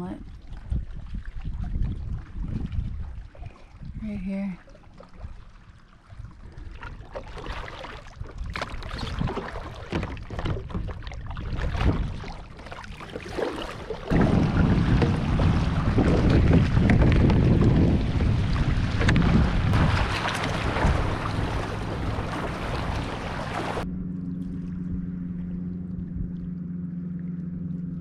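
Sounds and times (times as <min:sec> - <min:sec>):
wind buffeting on microphone: 0:00.0 - 0:04.3, 0:05.1 - 0:23.9
water lapping at hull: 0:00.0 - 0:28.0
paddle splashes: 0:00.2 - 0:03.9, 0:04.6 - 0:23.8.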